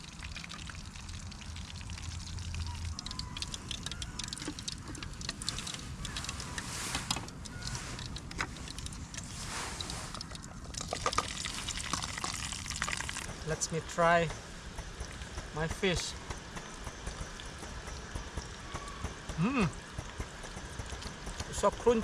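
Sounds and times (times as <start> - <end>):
oil sizzling and popping: 0.0 - 22.0.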